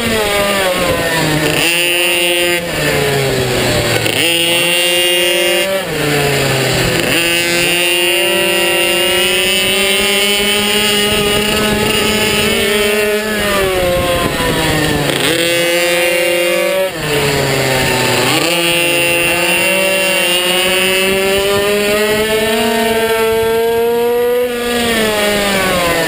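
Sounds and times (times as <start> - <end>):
minibike engine revving: 0.0 - 26.0.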